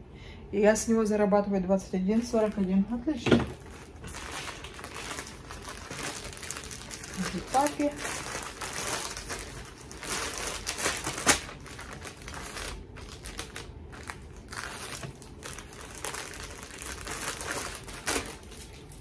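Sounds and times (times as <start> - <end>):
packaging crinkling: 2.2 - 19.0.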